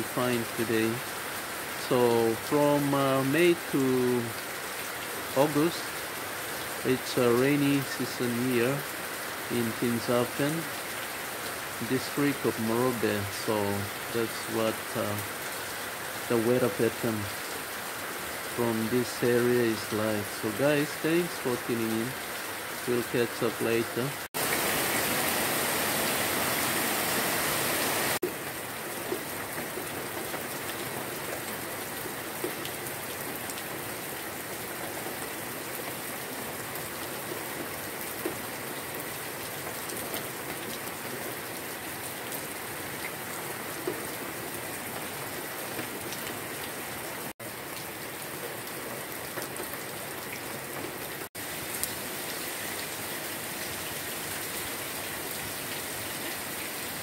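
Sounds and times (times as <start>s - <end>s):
heavy rain on trees and grass: 0.0s - 57.0s.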